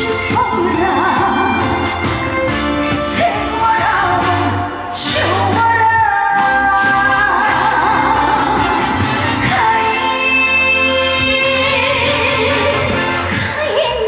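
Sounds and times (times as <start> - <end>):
band accompaniment: 0.0 - 13.7
woman singing: 0.0 - 14.0.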